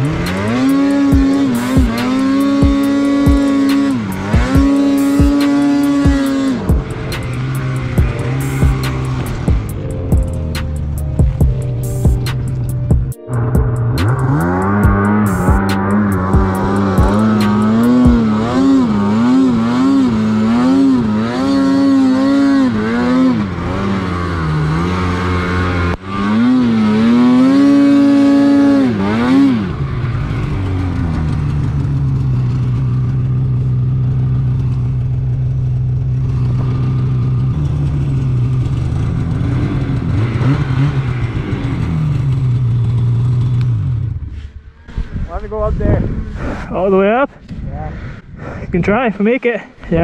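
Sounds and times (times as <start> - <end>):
snowmobile engine revving: 0.0 - 50.0.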